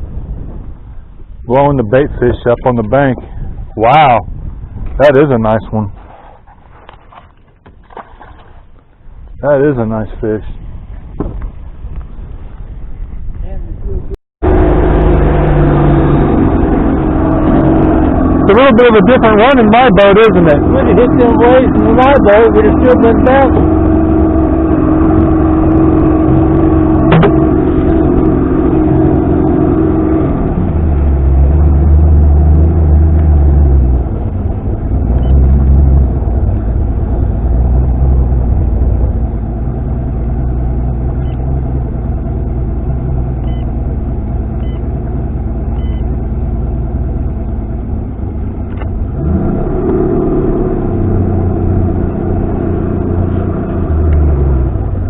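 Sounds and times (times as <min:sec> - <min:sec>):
outboard motor running: 0:02.0 - 0:13.1, 0:14.4 - 0:55.0.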